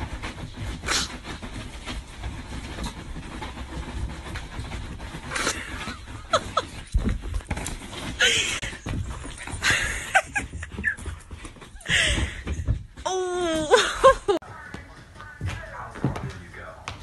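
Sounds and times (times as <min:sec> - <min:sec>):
bedding rustling: 0:00.0 - 0:17.0.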